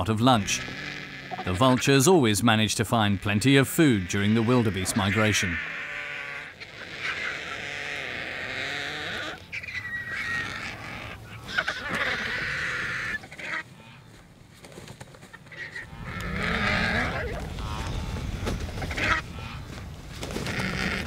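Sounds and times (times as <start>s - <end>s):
vultures hissing calls: 0.3s - 2.2s, 3.0s - 14.1s, 15.5s - 21.0s.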